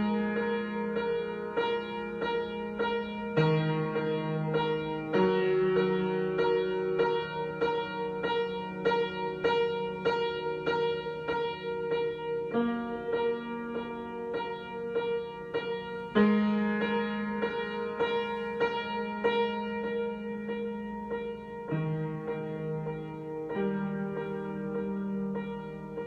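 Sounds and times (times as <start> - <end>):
piano chord struck repeatedly: 0.0 - 26.0.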